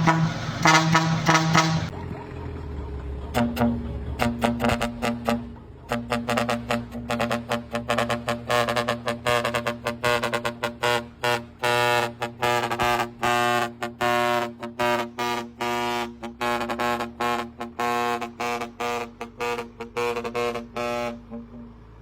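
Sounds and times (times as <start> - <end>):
horn short honks: 0.0 - 1.9, 3.4 - 21.6.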